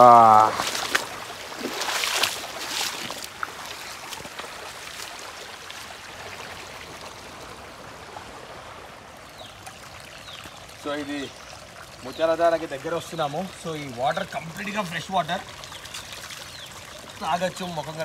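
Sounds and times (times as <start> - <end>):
stream trickling over rocks: 0.0 - 18.0
water splashes: 0.0 - 18.0.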